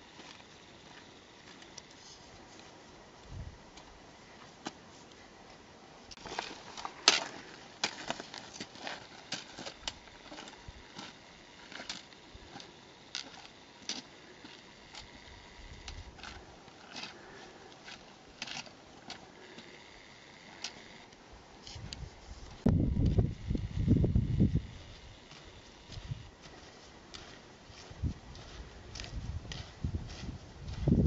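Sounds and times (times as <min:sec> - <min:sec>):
footsteps crunching on rocky ground: 0:00.0 - 0:05.0, 0:06.1 - 0:21.0, 0:21.6 - 0:31.0.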